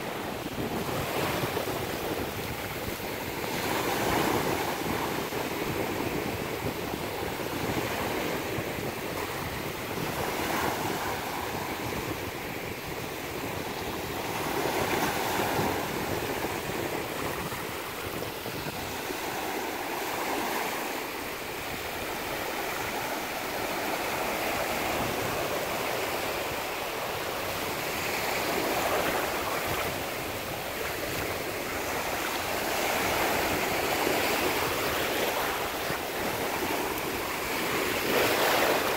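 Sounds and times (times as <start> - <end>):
small waves breaking: 0.0 - 38.9.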